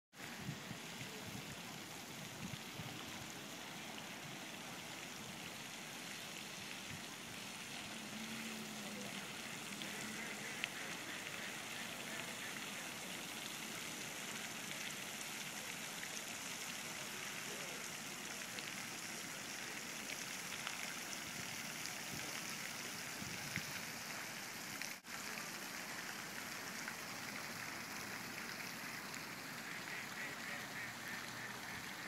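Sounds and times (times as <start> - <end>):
fountain water splashing on pond: 0.1 - 32.0.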